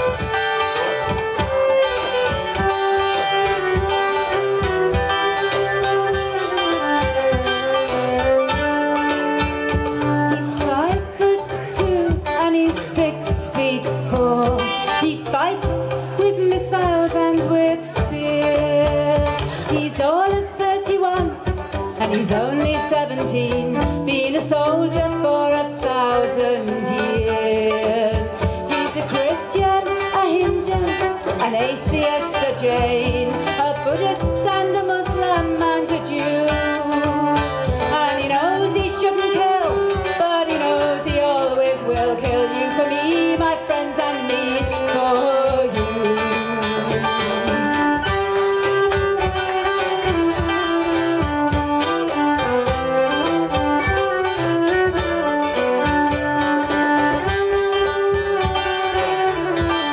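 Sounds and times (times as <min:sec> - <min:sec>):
fiddle melody: 0:00.0 - 0:59.9
hurdy-gurdy with drone: 0:00.0 - 0:59.9
strummed and plucked guitar: 0:00.0 - 0:59.9.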